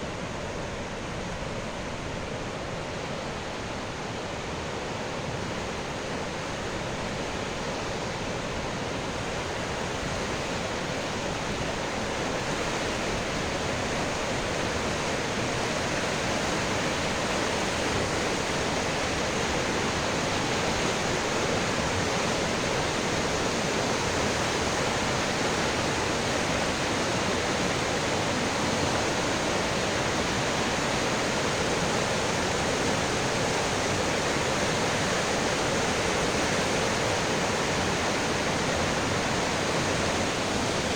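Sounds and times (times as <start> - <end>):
water rushing over waterfall: 3.4 - 40.9.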